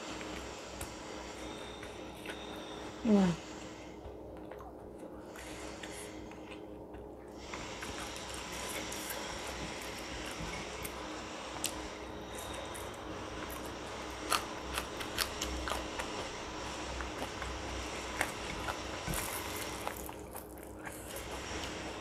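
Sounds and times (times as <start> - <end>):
steady low hum: 0.0 - 22.0
chewing crunches: 4.0 - 21.9.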